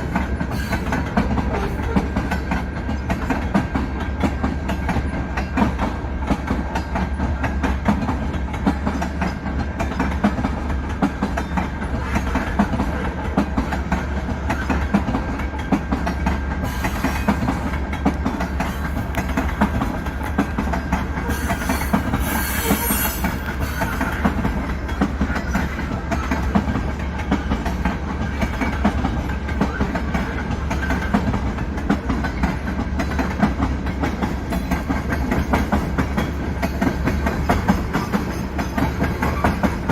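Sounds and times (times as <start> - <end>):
train wheels clickety-clack: 0.0 - 39.9.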